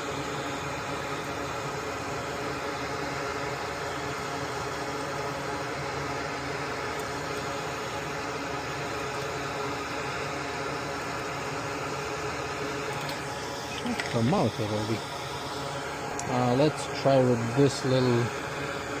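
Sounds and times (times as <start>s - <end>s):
extractor fan whirring: 0.0s - 19.0s.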